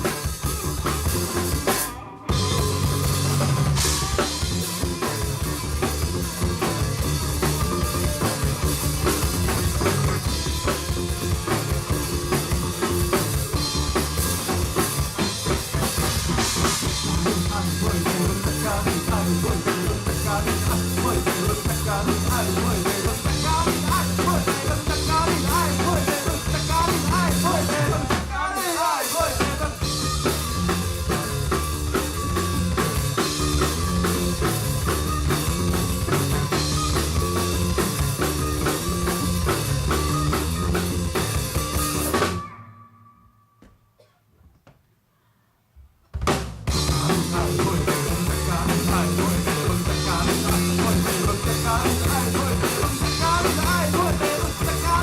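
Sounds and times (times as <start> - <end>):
drum kit snare and bass drum: 0.0 - 42.4, 46.0 - 55.0
rock band playing: 0.0 - 43.3, 46.2 - 55.0.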